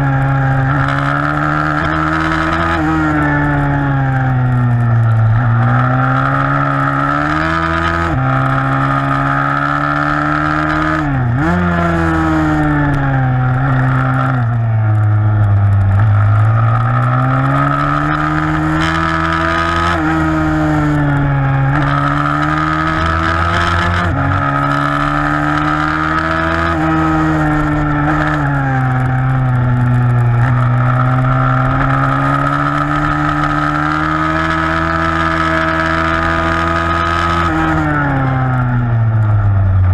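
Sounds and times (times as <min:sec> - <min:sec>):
pit bike engine racing: 0:00.0 - 0:39.9.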